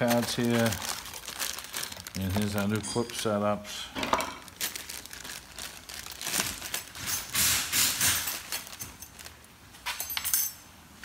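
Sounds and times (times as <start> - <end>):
plastic bag crinkling: 0.0 - 3.6, 4.2 - 9.5.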